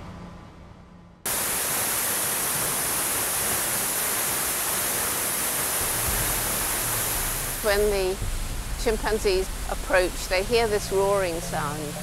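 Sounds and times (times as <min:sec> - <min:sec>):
waterfall roaring: 0:01.3 - 0:12.0.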